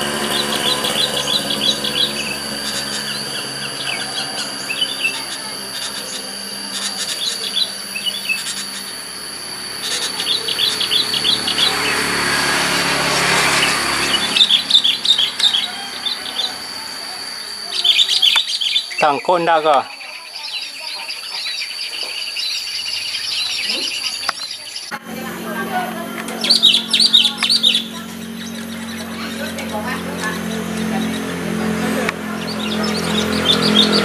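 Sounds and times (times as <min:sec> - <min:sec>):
birds chirping rapidly: 0:00.0 - 0:34.0
steady high-pitched whine: 0:00.0 - 0:34.0.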